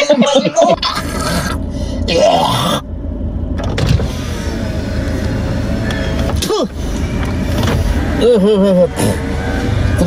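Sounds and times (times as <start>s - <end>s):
car engine idling: 0.8s - 10.0s.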